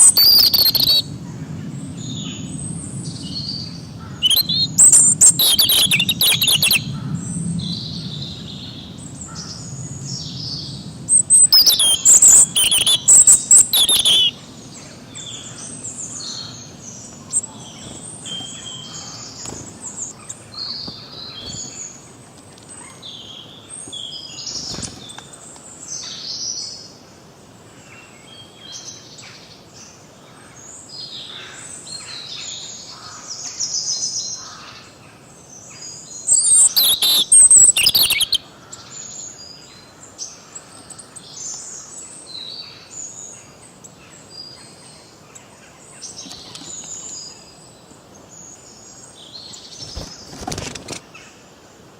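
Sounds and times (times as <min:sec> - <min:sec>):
songbirds chirping and singing: 0:00.0 - 0:26.8, 0:30.8 - 0:51.2.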